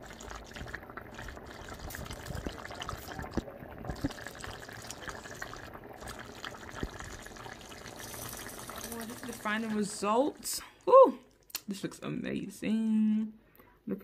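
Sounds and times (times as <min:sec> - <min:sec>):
soup bubbling at a boil: 0:00.0 - 0:11.8.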